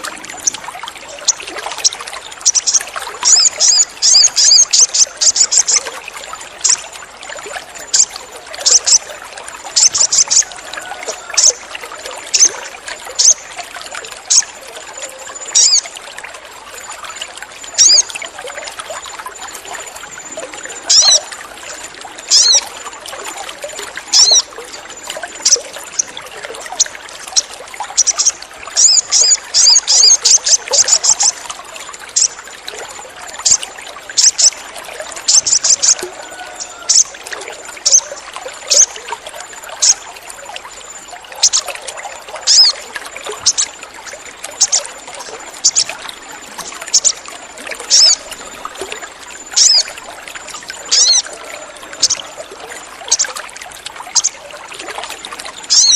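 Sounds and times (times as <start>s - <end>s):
trickling water: 0.0s - 55.9s.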